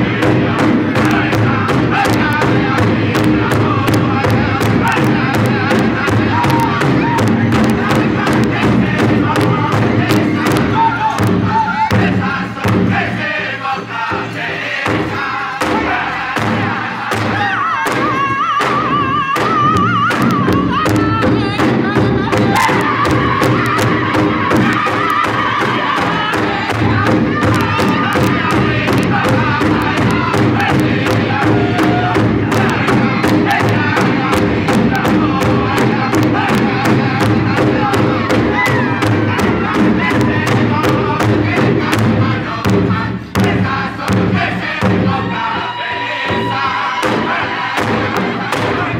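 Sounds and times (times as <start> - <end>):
drum group singing: 0.0 - 48.9
large drum steady beat: 0.0 - 48.9.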